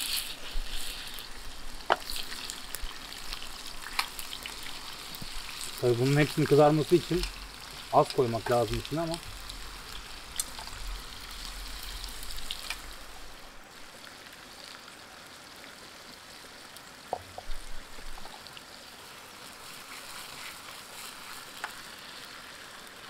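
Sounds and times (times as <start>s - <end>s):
fries sizzling in oil: 0.0s - 23.0s
stream running: 0.0s - 23.0s.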